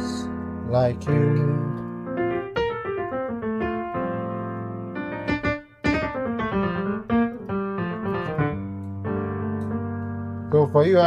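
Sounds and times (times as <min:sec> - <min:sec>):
piano chords with melody: 0:00.0 - 0:11.0.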